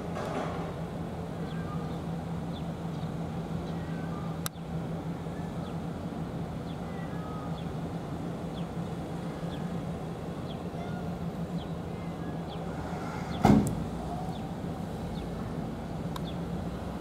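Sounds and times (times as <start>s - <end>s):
constant hum: 0.0s - 17.0s
low outdoor rumble: 0.0s - 17.0s.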